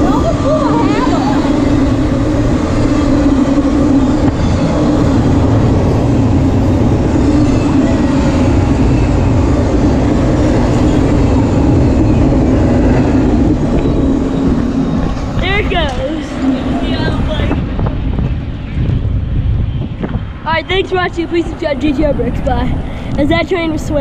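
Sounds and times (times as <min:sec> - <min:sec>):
constant low hum: 0:00.0 - 0:24.0
freight train rolling on rails: 0:00.0 - 0:24.0.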